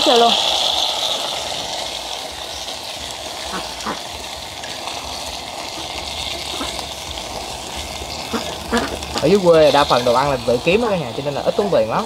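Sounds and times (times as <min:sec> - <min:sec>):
liquid hissing in a hot pot: 0:00.0 - 0:12.0
liquid pouring into a pot: 0:00.0 - 0:12.0.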